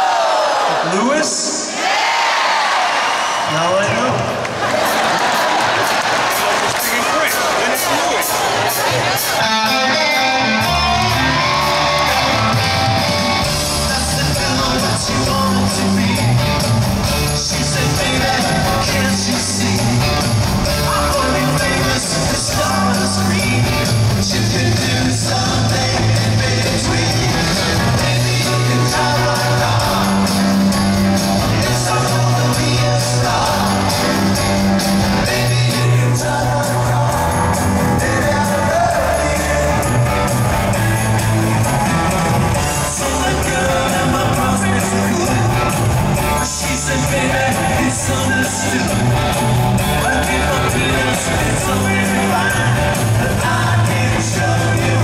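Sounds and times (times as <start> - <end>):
crowd shouting: 0.0 - 16.8, 26.2 - 55.0
person singing lead vocal: 8.8 - 55.0
rock band guitar and bass riff: 9.1 - 55.0.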